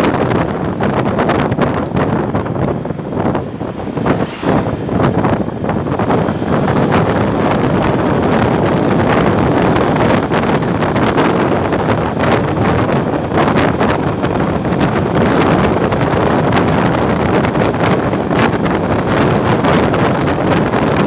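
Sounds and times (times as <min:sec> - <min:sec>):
motorcycle running: 0:00.0 - 0:21.0
road noise: 0:00.0 - 0:21.0
wind buffeting microphone: 0:00.0 - 0:21.0.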